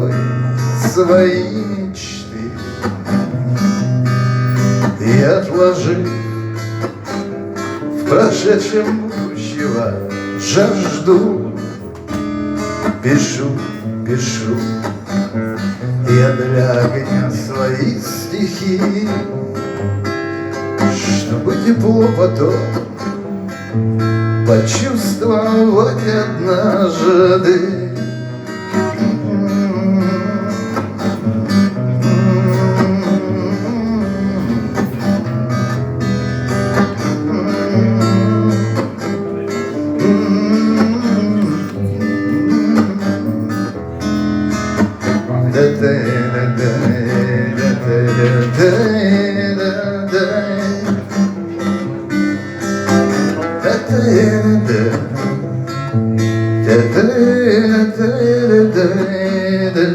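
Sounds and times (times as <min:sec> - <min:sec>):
plucked acoustic guitar: 0:00.0 - 0:59.9.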